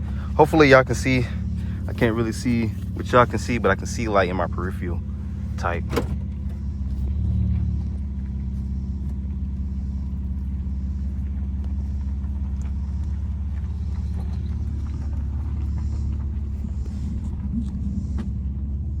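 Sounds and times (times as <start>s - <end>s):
car engine rumble from inside cabin: 0.0s - 19.0s.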